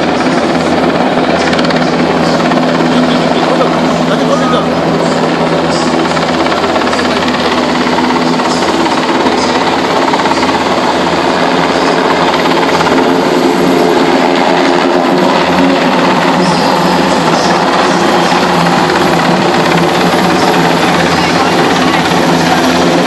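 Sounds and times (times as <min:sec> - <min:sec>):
helicopter flying overhead: 0:00.0 - 0:23.0.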